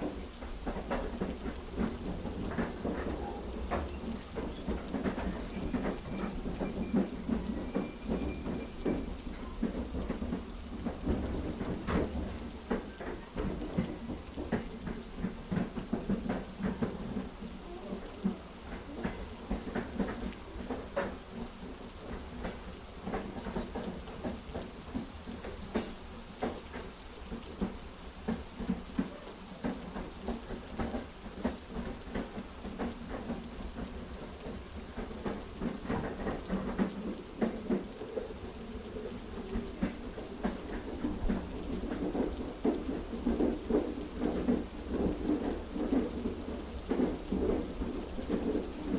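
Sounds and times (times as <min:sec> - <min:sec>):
heavy rain drops ticking: 0:00.0 - 0:48.9
train carriage rumble: 0:00.0 - 0:48.9.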